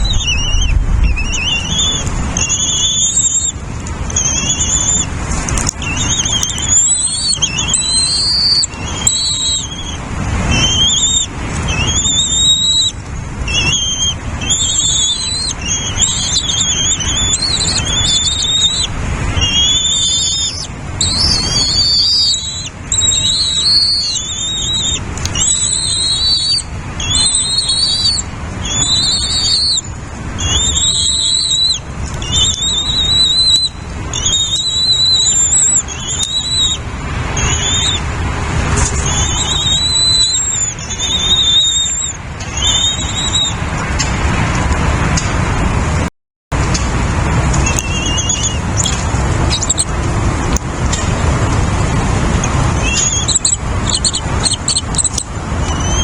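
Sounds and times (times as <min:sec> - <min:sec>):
nestling birds begging: 0:00.0 - 0:45.2, 0:46.6 - 0:56.0.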